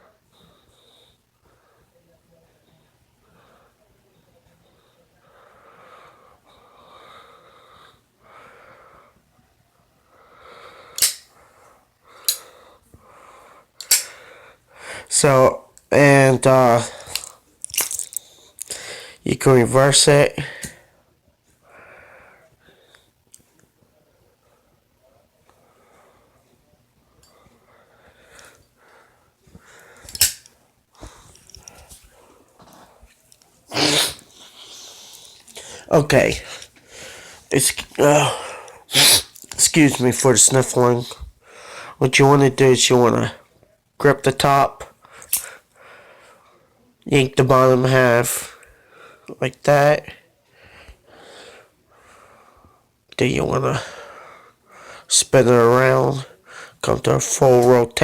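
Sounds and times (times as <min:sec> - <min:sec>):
noisy breathing and sniffling: 0:00.0 - 0:15.2, 0:16.7 - 0:19.3, 0:20.4 - 0:42.0, 0:44.9 - 0:46.9, 0:48.4 - 0:49.4, 0:50.2 - 0:53.0, 0:53.8 - 0:55.1, 0:56.2 - 0:56.8.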